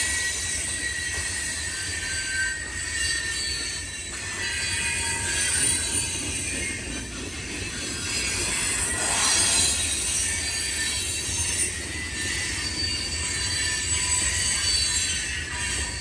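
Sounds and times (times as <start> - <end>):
freight train rumbling and rattling: 0.0 - 16.0.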